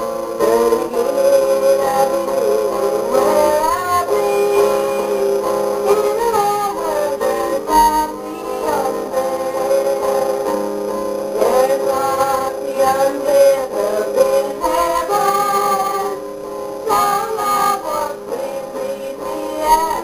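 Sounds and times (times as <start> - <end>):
acoustic guitars playing: 0.0 - 20.0
person singing: 0.0 - 20.0.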